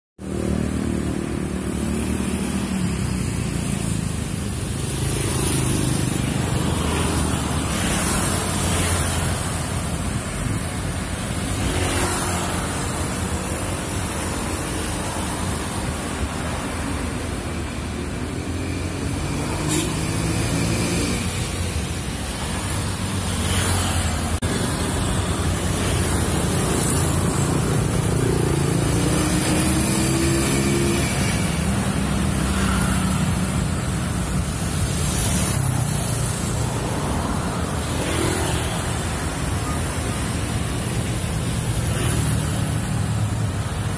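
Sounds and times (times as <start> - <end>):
cars passing: 0.2 - 43.9
motorbikes and scooters passing: 0.2 - 43.9.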